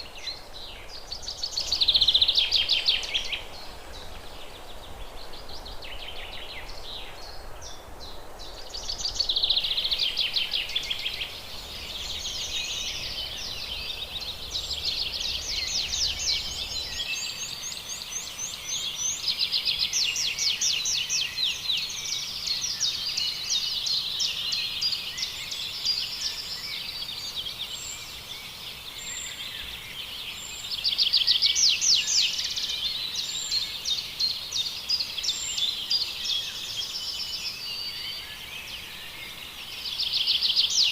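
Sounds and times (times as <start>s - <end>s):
small birds trilling and chirping: 0.0s - 40.9s.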